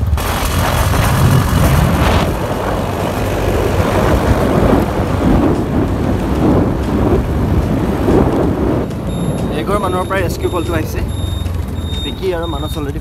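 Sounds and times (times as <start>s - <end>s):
scooter engine: 0.0s - 13.0s
tyre noise on road: 0.0s - 13.0s
wind buffeting microphone: 0.0s - 13.0s.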